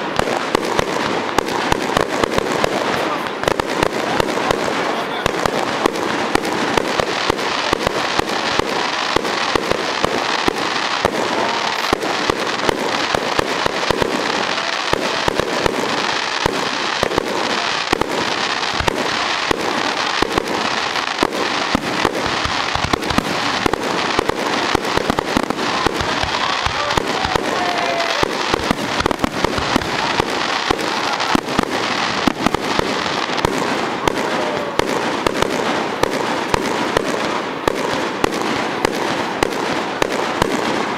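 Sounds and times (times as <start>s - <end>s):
fireworks rapid bangs: 0.0s - 40.9s.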